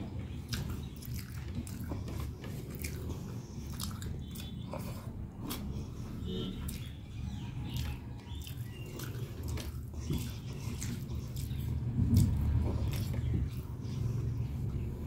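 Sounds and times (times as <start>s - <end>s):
low background rumble: 0.0s - 15.0s
person chewing with mouth smacks: 0.1s - 14.4s.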